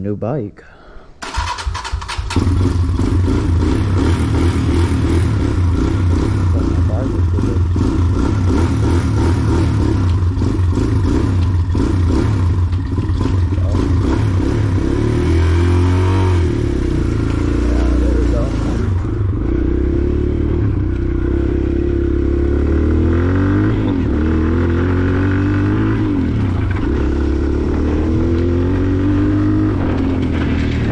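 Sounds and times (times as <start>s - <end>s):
dirt bike engine running: 1.3s - 30.9s.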